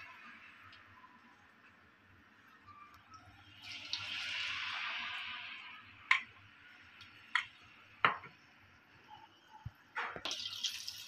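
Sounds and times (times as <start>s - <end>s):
oil sizzling with pops: 0.0s - 11.0s.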